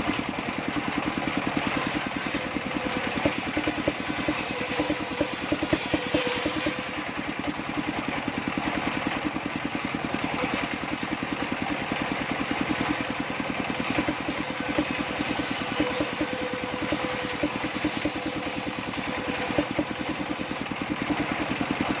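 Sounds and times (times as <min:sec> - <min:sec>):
saw table engine running: 0:00.0 - 0:22.0.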